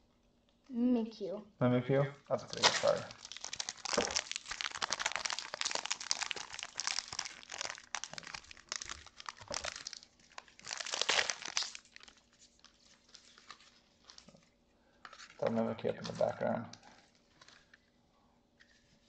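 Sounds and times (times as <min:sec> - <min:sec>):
foil wrapper crinkling: 0:02.3 - 0:17.8.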